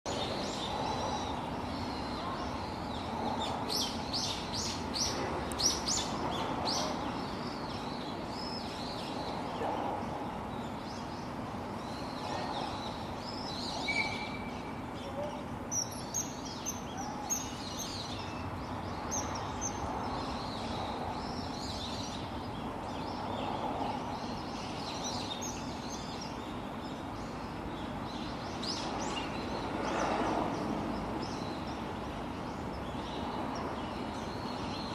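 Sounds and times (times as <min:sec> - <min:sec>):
steady background hiss: 0:00.1 - 0:34.9.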